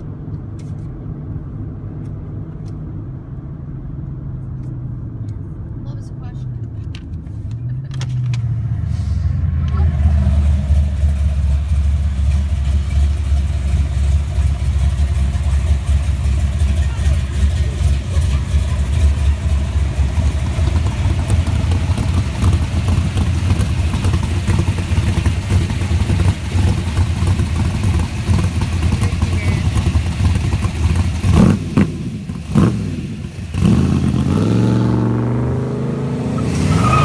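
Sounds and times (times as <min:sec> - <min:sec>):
car exhaust rumble: 0:00.0 - 0:37.0.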